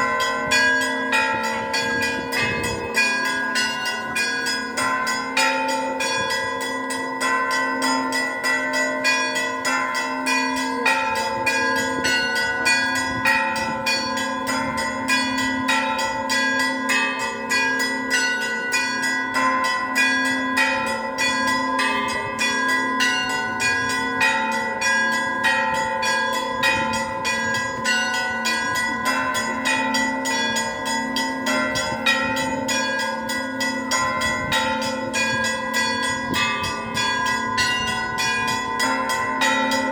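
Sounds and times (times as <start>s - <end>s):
large bells ringing: 0.0s - 39.9s
small bells struck rapidly: 0.0s - 39.9s.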